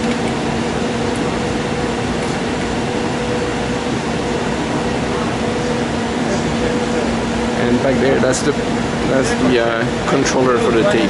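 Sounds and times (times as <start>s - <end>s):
fans and blowers running: 0.0s - 11.0s.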